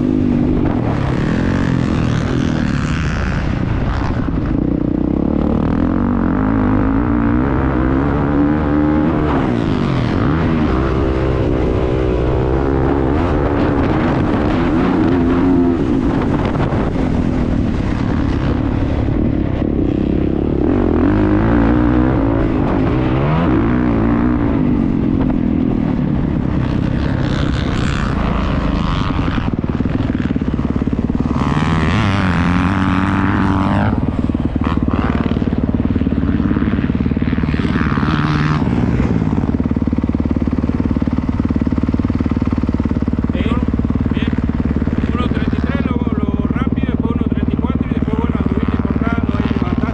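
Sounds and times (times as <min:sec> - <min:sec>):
motocross motorcycle engine revving: 0:00.0 - 0:49.9.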